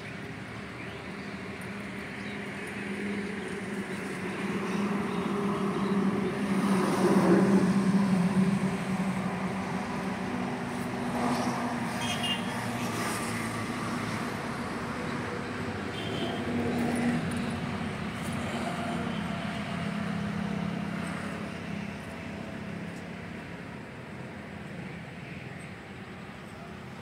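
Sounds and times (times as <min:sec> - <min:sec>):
traffic engine hum: 0:00.0 - 0:27.0.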